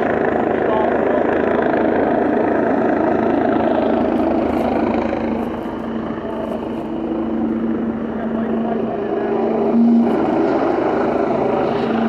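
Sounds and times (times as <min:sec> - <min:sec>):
helicopter rotor noise: 0:00.0 - 0:12.0.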